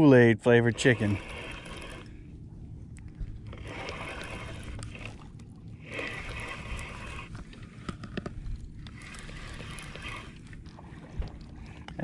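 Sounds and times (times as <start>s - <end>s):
fishing reel ticking whir: 0.0s - 2.3s, 3.3s - 12.0s
steady low rumble: 0.0s - 12.0s.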